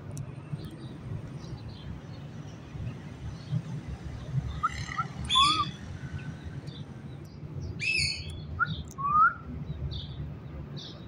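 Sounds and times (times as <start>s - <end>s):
birds chirping: 0.2s - 11.0s.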